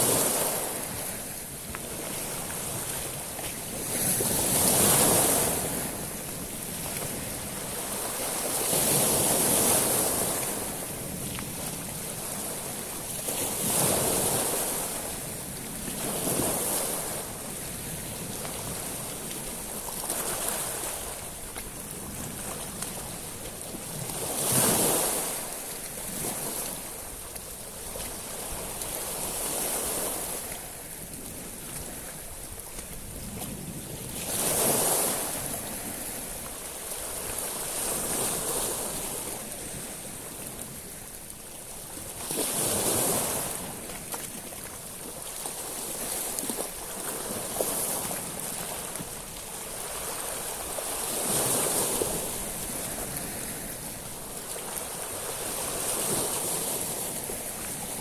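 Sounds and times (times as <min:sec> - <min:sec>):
waves washing onto shingle: 0:00.0 - 0:58.0.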